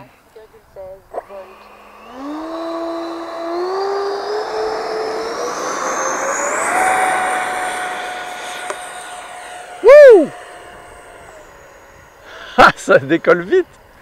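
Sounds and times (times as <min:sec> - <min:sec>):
electric ducted fans whining: 0:00.8 - 0:14.0.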